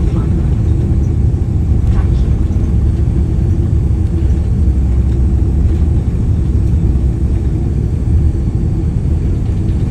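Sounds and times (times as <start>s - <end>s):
airliner engine and wheel rumble: 0.0s - 9.9s.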